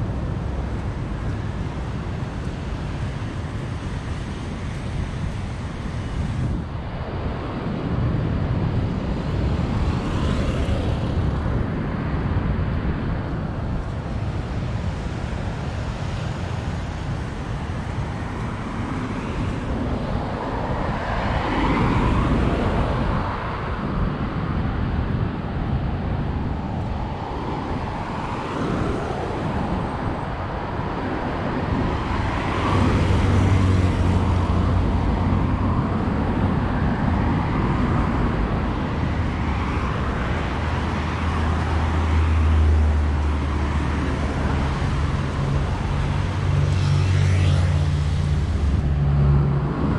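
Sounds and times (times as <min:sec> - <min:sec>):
cars passing: 0:00.0 - 0:49.9
low engine hum: 0:00.0 - 0:49.9.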